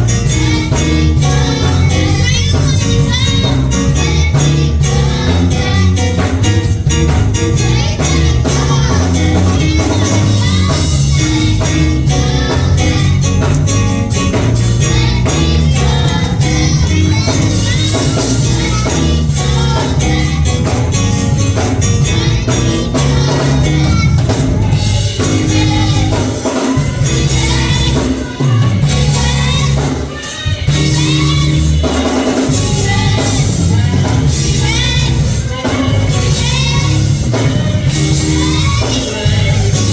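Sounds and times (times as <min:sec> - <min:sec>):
band with heavy bass: 0:00.0 - 0:39.9
person singing gospel: 0:00.0 - 0:39.9.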